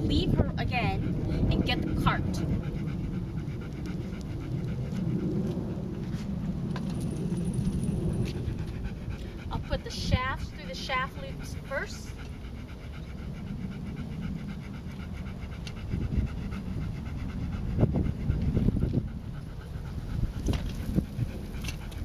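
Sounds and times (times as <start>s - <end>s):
dog panting: 0.0s - 22.0s.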